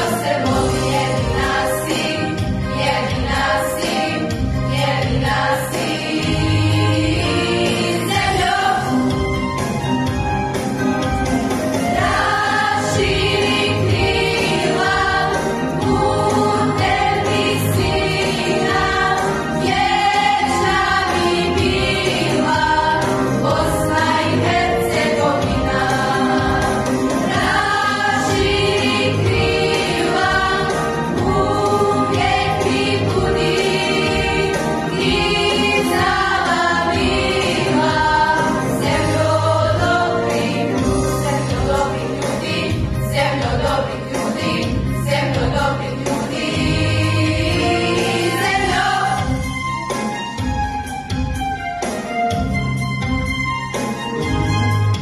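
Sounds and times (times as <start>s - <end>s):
choir singing with accompaniment: 0.0s - 55.0s.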